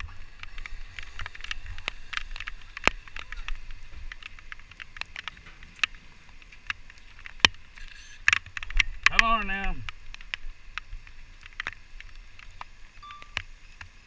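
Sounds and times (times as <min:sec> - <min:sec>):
hail and rain ticking: 0:00.0 - 0:14.0
wind rumbling on microphone: 0:00.0 - 0:14.0.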